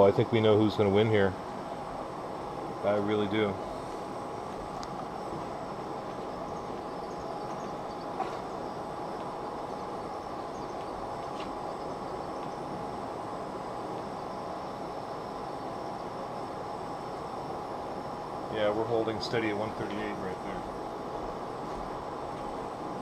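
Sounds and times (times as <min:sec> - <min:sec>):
faint steady tone: 0:00.0 - 0:23.0.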